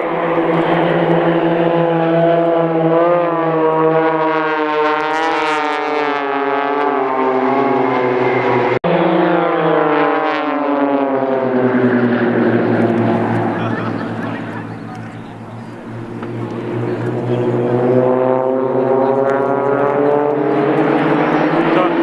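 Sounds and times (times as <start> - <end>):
propeller aircraft droning overhead: 0.0 - 22.0.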